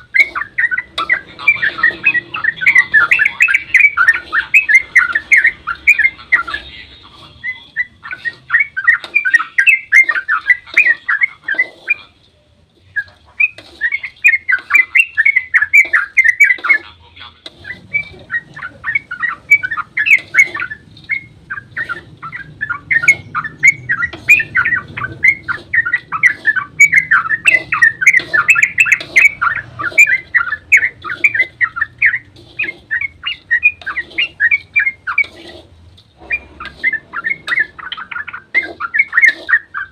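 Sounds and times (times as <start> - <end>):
bulbul singing chattering notes: 0.0 - 12.2, 12.8 - 35.4, 36.2 - 39.9.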